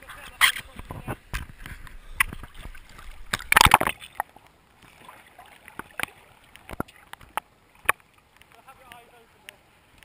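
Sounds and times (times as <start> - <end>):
sharp clicks underwater: 0.0 - 10.0
water splashing against camera: 0.0 - 10.0.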